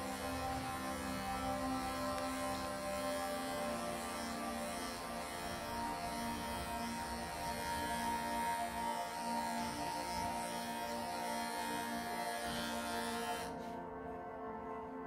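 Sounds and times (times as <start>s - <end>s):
electric clippers buzzing: 0.0s - 13.8s.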